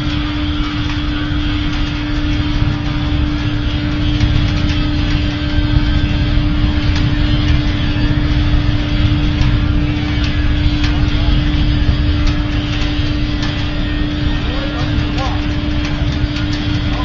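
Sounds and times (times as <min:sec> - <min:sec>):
burner flame roaring: 0:00.0 - 0:17.0
low hum: 0:00.0 - 0:17.0.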